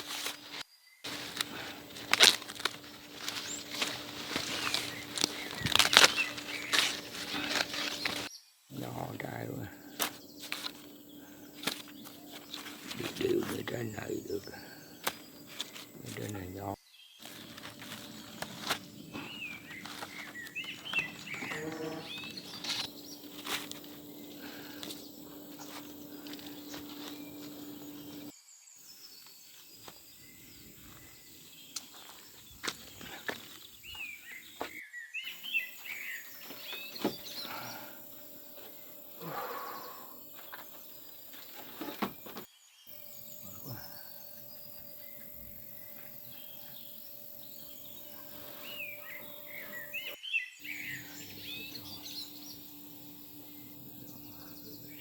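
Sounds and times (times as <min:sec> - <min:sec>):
low steady hum: 0:00.0 - 0:28.3, 0:36.3 - 0:55.0
small birds chirping: 0:00.0 - 0:55.0.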